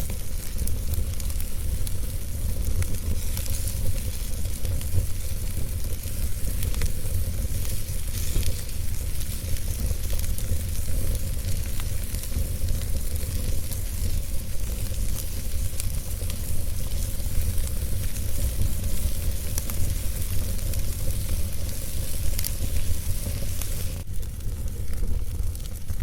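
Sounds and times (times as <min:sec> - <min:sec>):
fire crackling: 0:00.0 - 0:26.0
steady hiss: 0:00.0 - 0:26.0.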